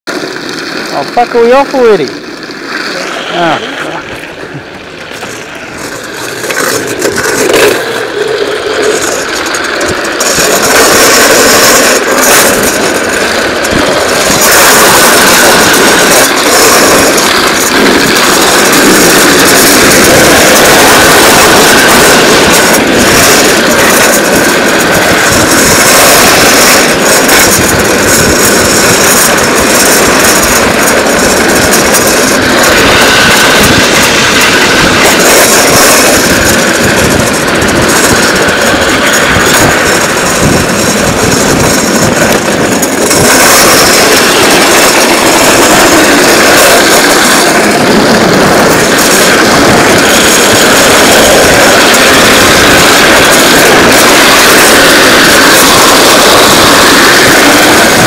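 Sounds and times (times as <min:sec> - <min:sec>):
plastic wheels rolling on asphalt: 0:00.0 - 0:58.0
wind on microphone: 0:03.0 - 0:58.0.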